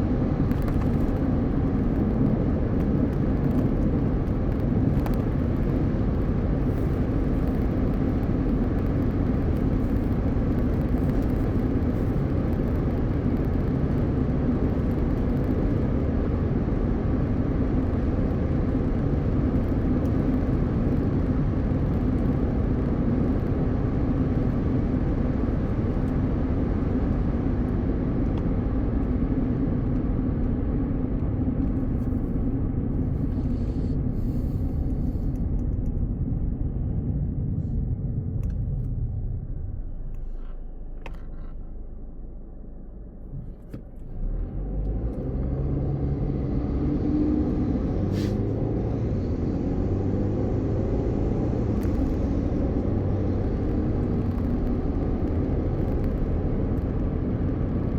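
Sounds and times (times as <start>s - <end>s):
car tyre noise on highway: 0.0s - 57.9s.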